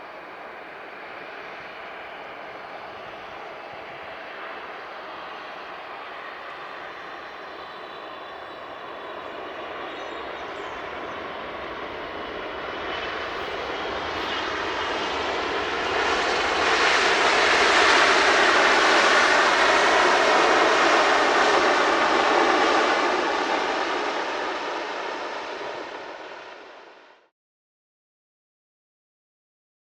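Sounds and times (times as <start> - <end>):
jet airliner engine roar: 0.0 - 27.3.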